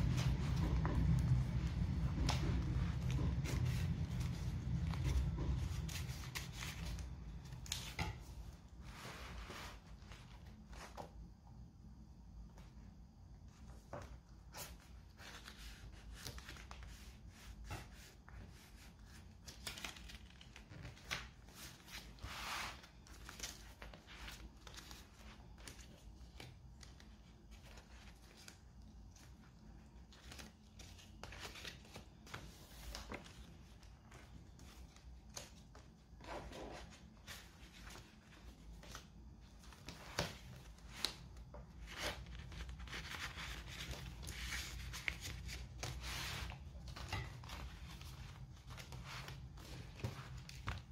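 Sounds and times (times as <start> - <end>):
paper rustling and crinkling: 0.0 - 11.2, 13.6 - 50.9.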